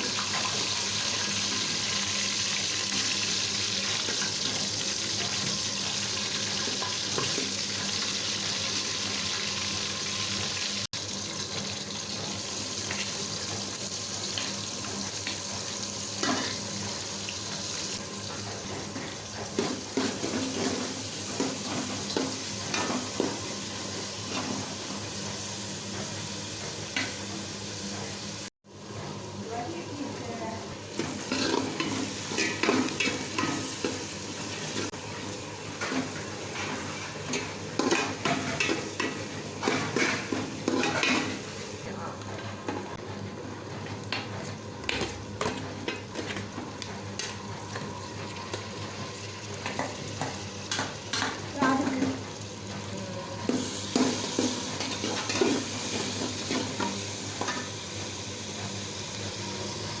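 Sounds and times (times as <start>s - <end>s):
food sizzling in oil: 0.0s - 28.5s, 29.9s - 41.9s, 43.3s - 60.0s.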